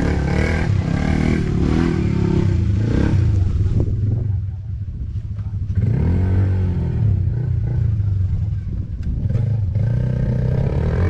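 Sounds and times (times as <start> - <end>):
atv engine revving: 0.0 - 4.2, 5.6 - 11.0.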